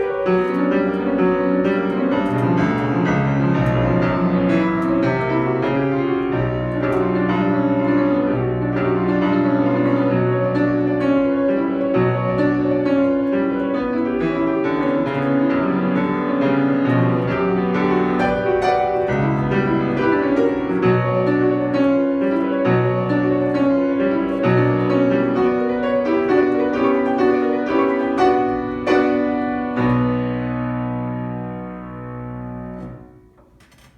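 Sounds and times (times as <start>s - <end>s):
solo piano classical piece: 0.0s - 33.9s.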